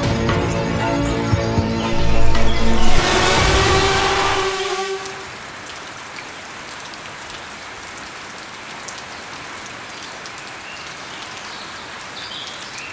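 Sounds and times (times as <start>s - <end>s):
steady rain falling: 1.9s - 12.9s.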